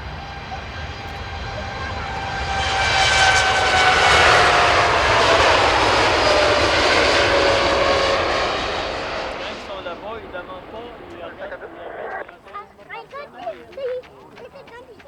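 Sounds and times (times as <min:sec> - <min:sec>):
airliner engines passing close: 0:00.0 - 0:15.0.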